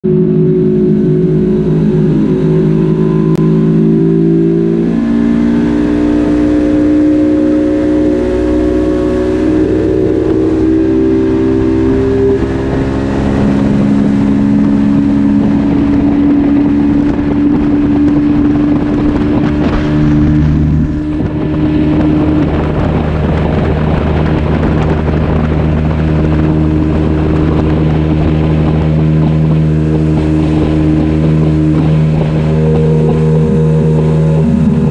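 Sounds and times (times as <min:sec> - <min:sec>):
outboard motor running: 0:00.0 - 0:34.9
rush of wind and water: 0:00.0 - 0:34.9.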